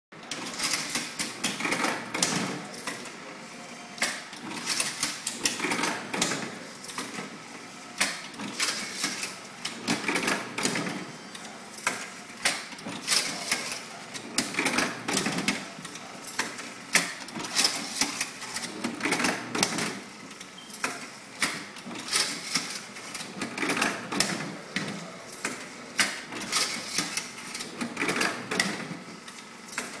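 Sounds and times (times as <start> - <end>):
strapping machine whirring and clicking: 0.2 - 3.3, 3.9 - 30.0.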